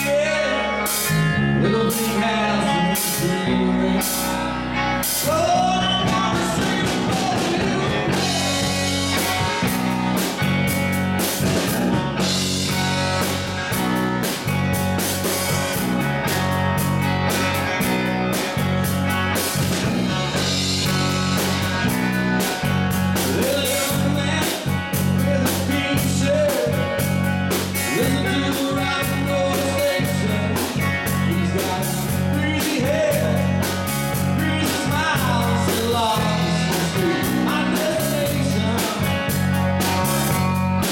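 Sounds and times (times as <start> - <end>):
electric bass guitar: 0.0 - 40.9
electric guitars: 0.0 - 40.9
drum kit beat: 5.0 - 40.9.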